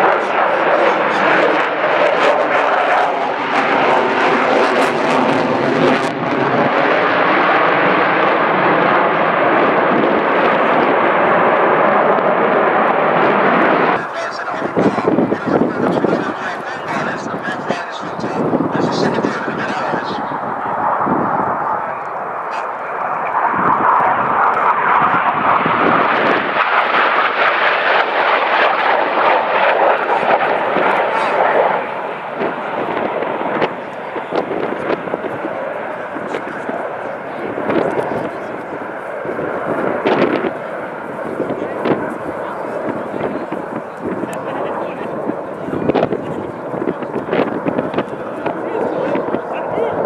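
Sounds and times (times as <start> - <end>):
jet engine roar: 0.0 - 50.0.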